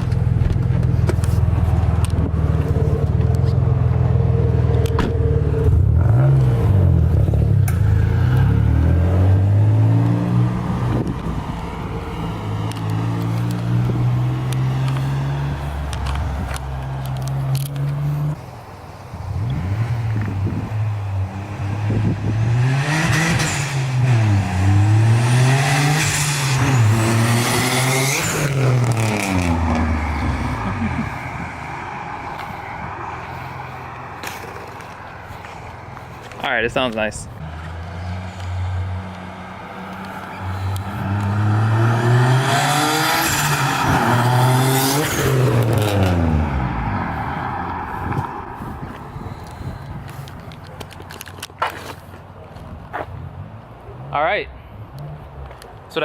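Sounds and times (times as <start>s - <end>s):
car engine revving: 0.0s - 18.4s, 19.3s - 36.1s, 37.4s - 49.8s.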